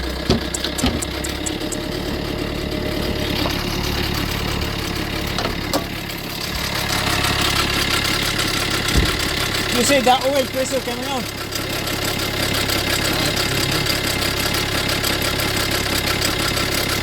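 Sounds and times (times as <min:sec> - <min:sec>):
diesel engine idling with rattle: 0:00.0 - 0:17.0.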